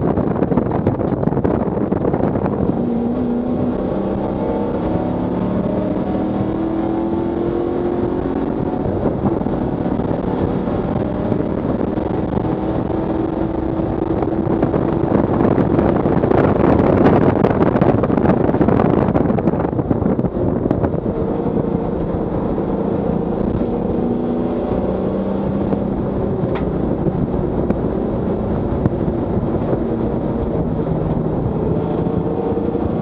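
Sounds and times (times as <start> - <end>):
car engine accelerating: 0.0 - 33.0
wind and road noise: 0.0 - 33.0.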